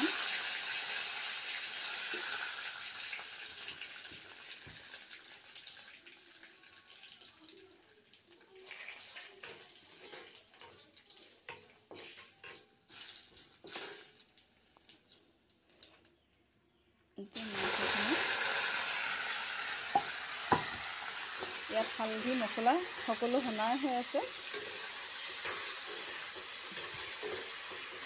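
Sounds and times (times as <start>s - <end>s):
frying crackles and pops: 0.0s - 28.0s
seeds sizzling in hot oil: 0.0s - 28.0s.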